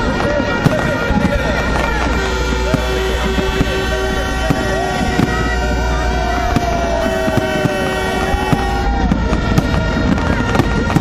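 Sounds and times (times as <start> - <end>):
crowd voices: 0.0 - 11.0
fireworks popping and banging: 0.0 - 11.0
horn-like tones: 0.0 - 11.0.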